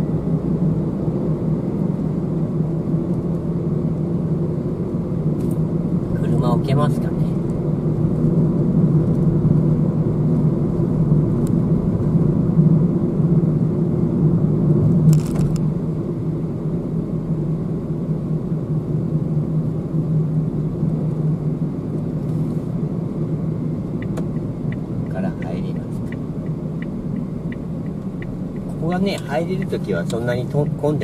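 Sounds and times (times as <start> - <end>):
car engine hum and road noise: 0.0 - 31.0.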